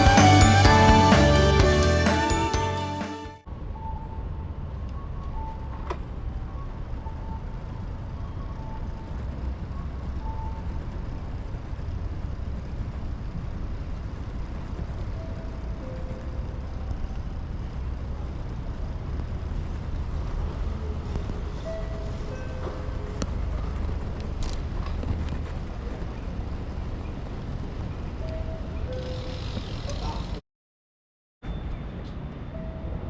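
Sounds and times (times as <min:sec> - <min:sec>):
road traffic rumble: 0:00.0 - 0:30.4.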